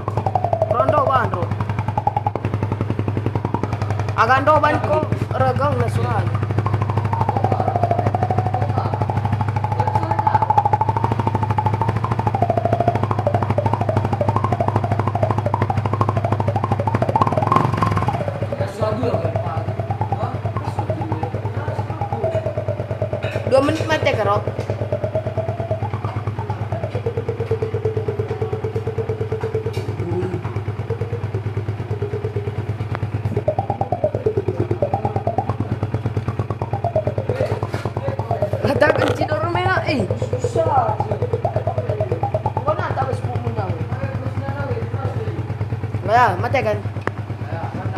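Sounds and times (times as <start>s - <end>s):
music with wavering tone: 0.0s - 47.1s
motorcycle engine idling: 0.0s - 47.9s.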